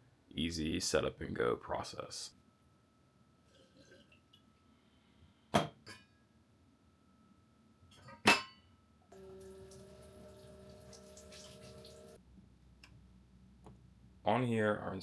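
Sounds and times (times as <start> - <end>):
steady humming tone over hiss: 0.0 - 15.0.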